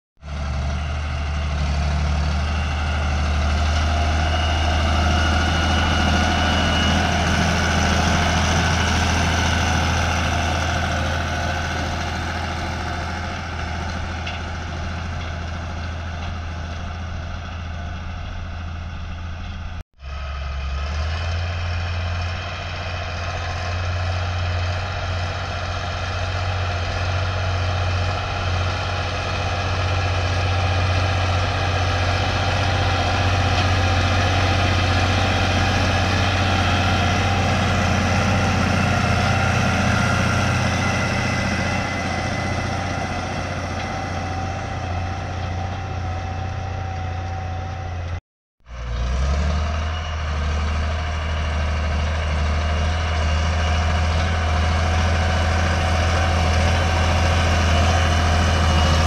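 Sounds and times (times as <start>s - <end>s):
tractor diesel engine under load: 0.2s - 59.0s.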